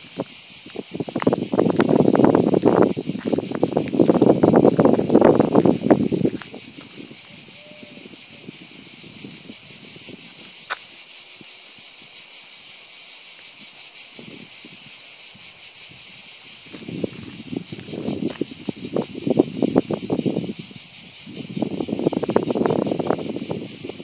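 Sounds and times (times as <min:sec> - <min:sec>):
cicadas buzzing: 0:00.0 - 0:24.0.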